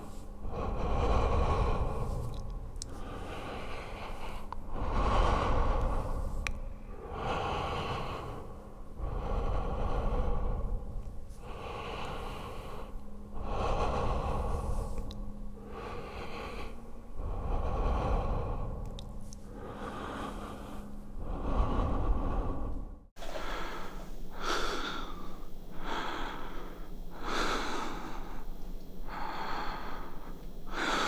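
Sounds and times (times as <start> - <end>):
slow human breathing: 0.0 - 31.0
steady low hum: 0.0 - 31.0.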